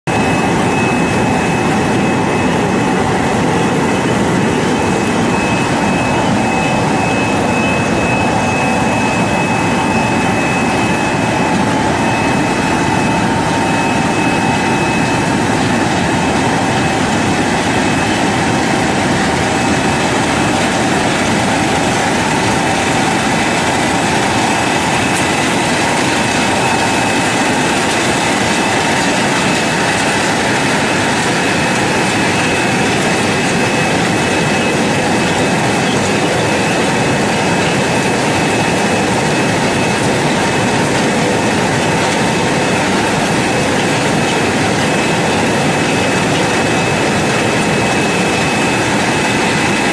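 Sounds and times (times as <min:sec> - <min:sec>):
washing machine mechanical whine: 0:00.0 - 0:49.9.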